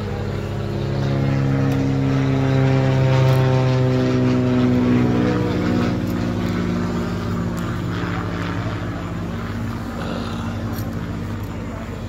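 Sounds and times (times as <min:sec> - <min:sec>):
buggy engine droning: 0:00.0 - 0:12.0.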